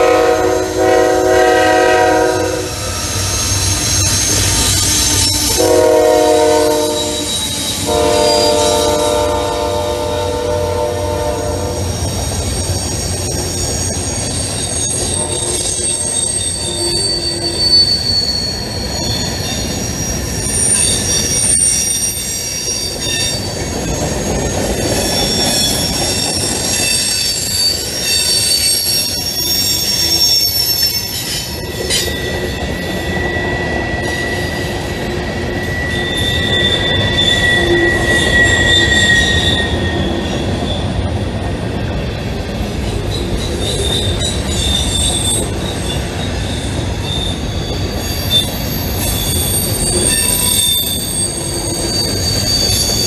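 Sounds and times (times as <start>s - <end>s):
high-pitched wheel squeal: 0.0s - 41.1s, 43.1s - 53.0s
lower squealing tone: 0.0s - 41.2s, 43.1s - 53.0s
train wheels rumbling on rail: 0.0s - 53.0s.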